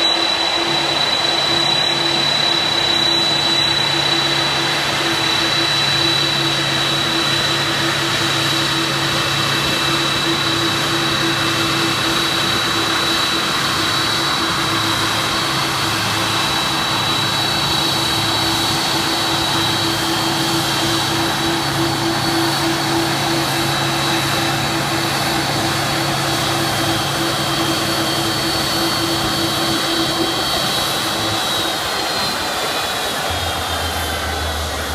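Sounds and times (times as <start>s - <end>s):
high-pitched jet engine whine: 0.0s - 34.9s
jet engines rushing: 0.0s - 34.9s.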